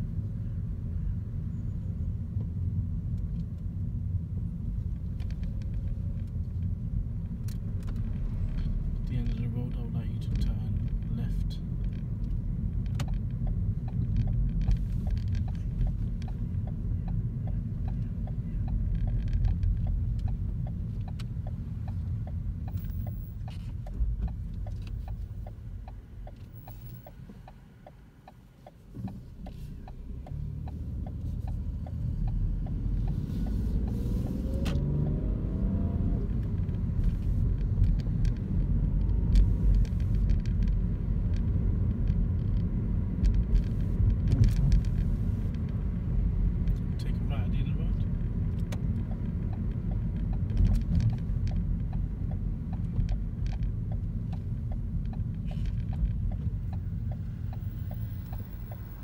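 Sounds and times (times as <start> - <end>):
car engine and road rumble: 0.0 - 59.0
turn indicator ticking: 2.2 - 59.0.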